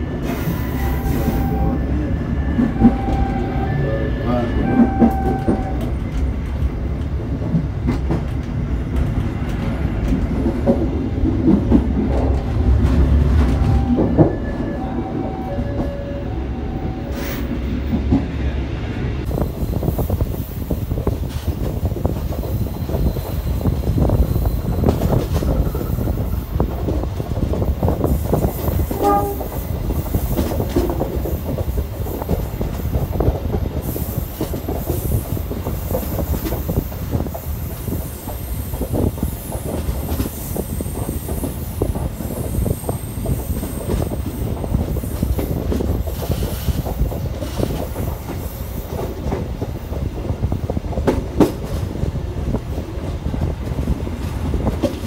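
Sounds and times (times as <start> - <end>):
train coach rumbling: 0.0 - 55.0.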